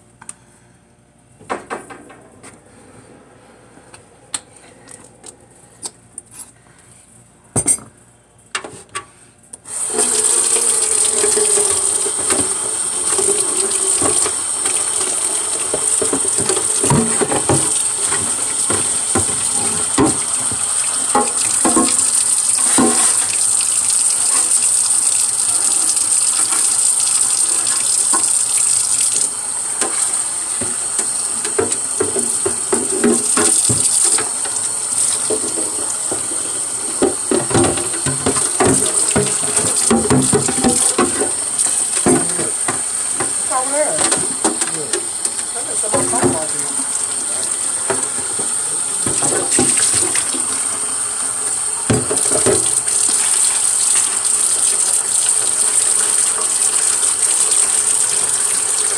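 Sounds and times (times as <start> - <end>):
water pouring into plastic container: 9.8 - 58.9.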